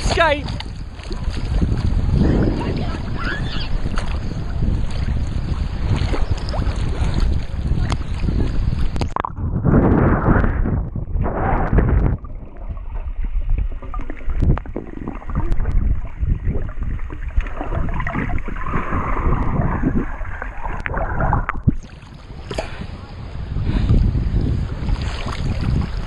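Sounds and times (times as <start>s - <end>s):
water rushing underwater: 0.0s - 23.5s
small waves: 0.0s - 26.0s.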